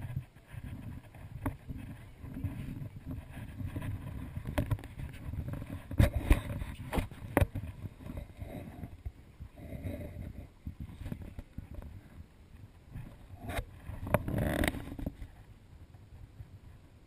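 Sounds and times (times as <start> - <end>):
low rumble of movement: 0.0 - 17.0.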